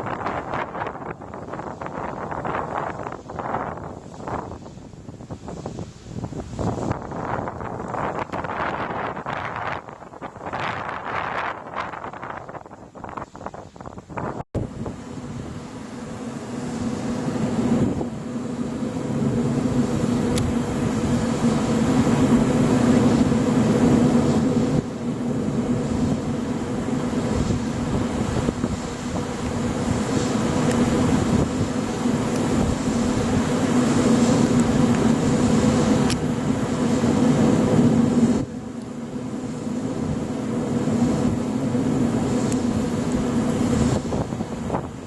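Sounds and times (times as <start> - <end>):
wind turbine droning: 0.0 - 45.0.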